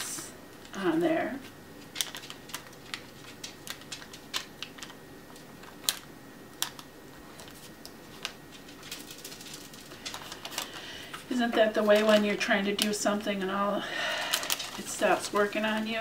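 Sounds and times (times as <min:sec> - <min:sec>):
paper clicks and crackles: 0:01.4 - 0:13.0, 0:14.0 - 0:16.0.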